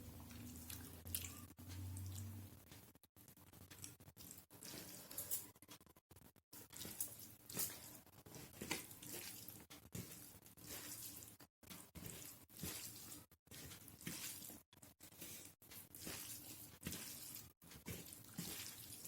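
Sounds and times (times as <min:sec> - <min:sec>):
wet chewing and squelching: 0:00.0 - 0:02.6, 0:03.2 - 0:05.2, 0:06.6 - 0:19.0.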